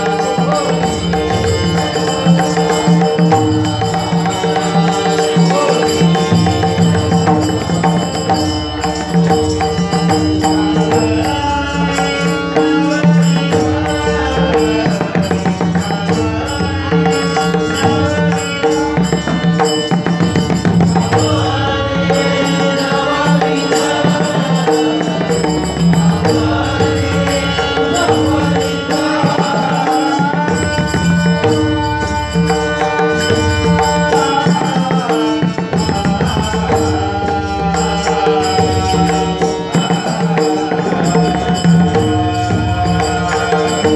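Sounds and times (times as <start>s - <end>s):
person singing devotional song: 0.0s - 43.9s.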